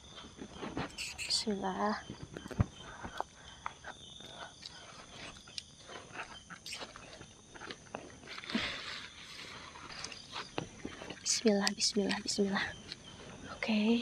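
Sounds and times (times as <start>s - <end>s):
night insects droning: 0.0s - 14.0s.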